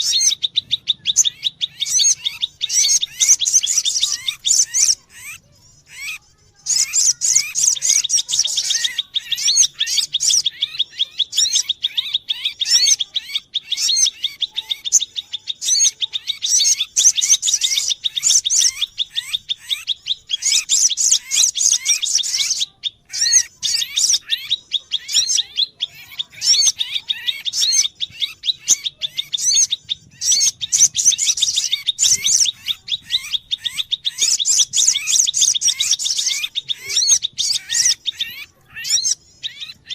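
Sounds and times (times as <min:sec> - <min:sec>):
sunbirds chirping: 0:00.0 - 0:39.9.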